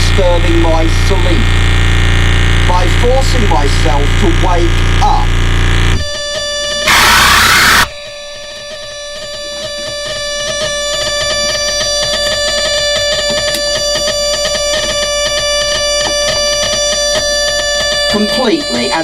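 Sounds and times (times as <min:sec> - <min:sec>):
electronic drone: 0:00.0 - 0:19.0.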